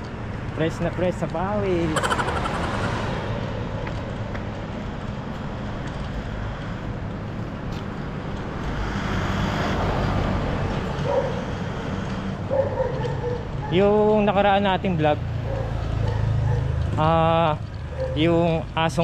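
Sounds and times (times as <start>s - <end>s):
cars driving on city street: 0.0s - 19.0s.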